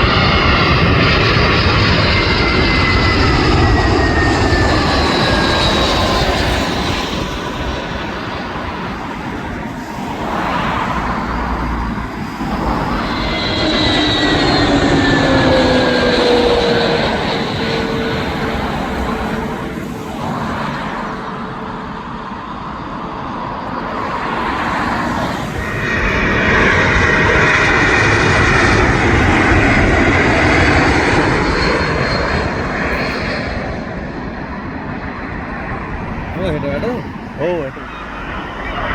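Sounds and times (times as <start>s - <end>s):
jet airliner passing overhead: 0.0s - 38.9s.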